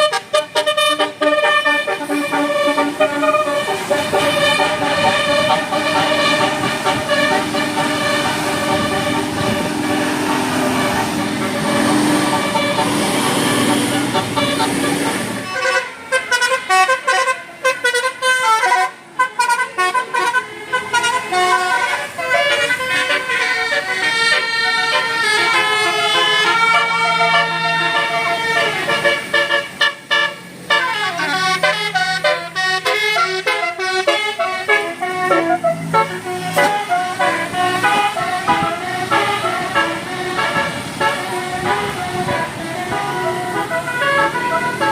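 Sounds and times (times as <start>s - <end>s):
musical bus horns playing tunes: 0.0s - 44.9s.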